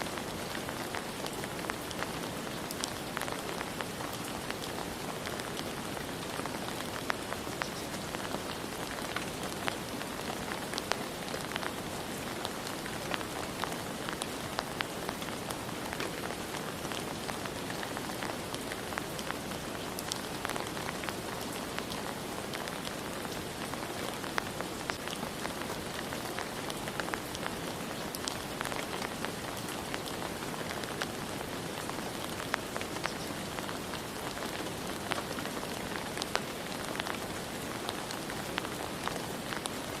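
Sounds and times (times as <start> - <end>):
raindrops hitting: 0.0 - 40.0
steady rain hiss: 0.0 - 40.0.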